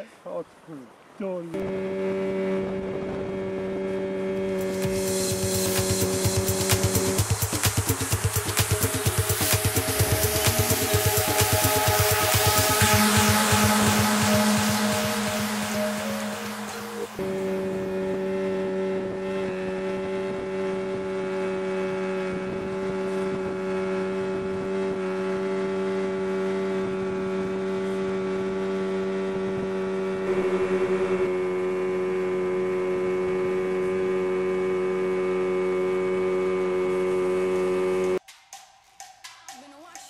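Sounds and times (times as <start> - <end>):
outboard motor droning: 1.5 - 38.2.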